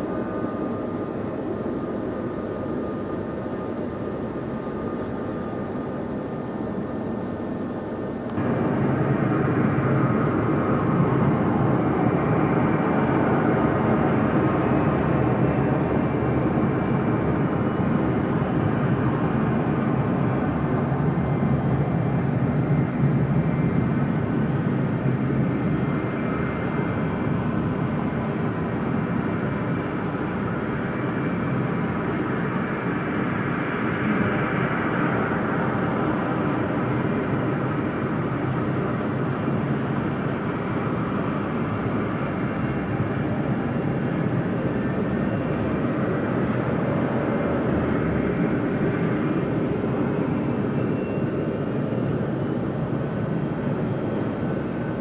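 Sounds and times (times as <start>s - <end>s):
faint engine whine: 0.0s - 55.0s
jet engines running: 0.0s - 55.0s.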